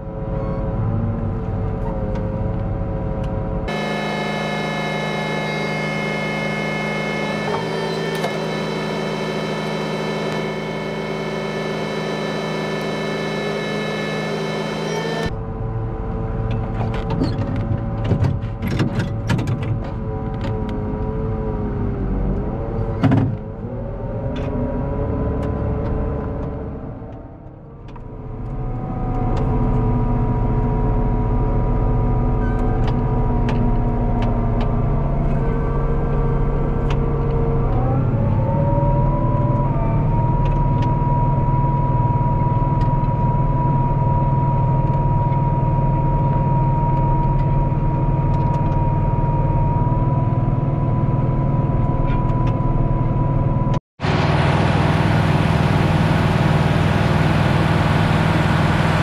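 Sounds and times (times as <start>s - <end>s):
high engine whine: 0.0s - 59.0s
tractor diesel engine under load: 0.0s - 59.0s.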